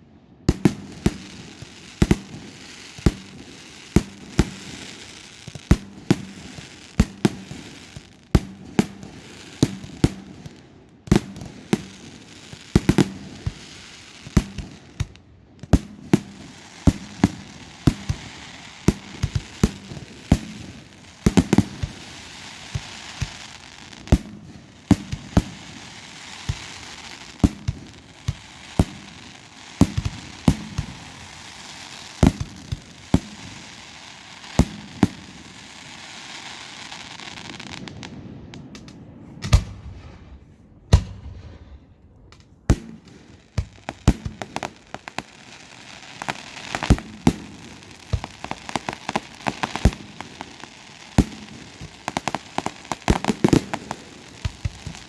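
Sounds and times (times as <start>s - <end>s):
fireworks bursting with sharp bangs: 0.0s - 55.0s
fireworks crackling: 0.5s - 55.0s.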